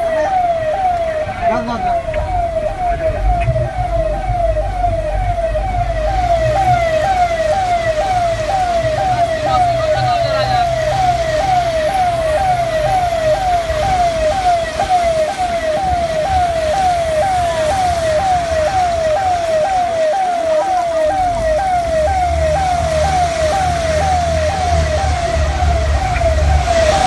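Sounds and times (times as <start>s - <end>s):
electronic siren wailing: 0.0s - 27.0s.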